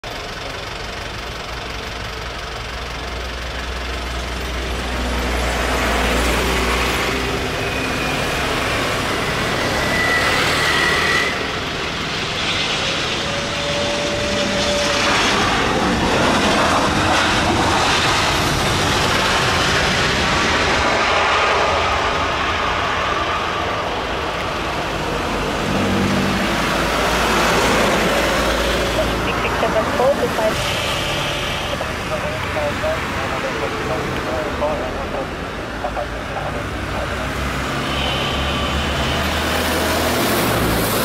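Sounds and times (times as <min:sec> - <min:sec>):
jet engines landing: 0:00.1 - 0:41.0.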